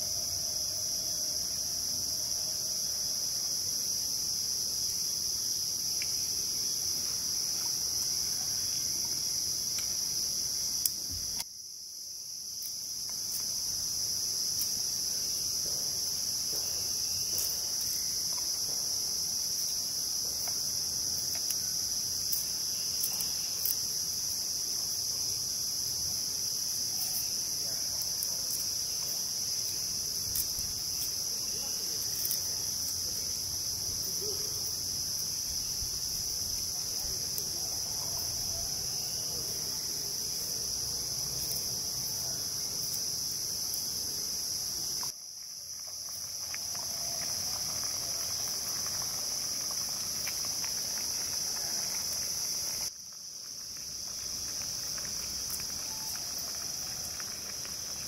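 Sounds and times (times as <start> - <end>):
insect chorus trilling: 0.0 - 58.0.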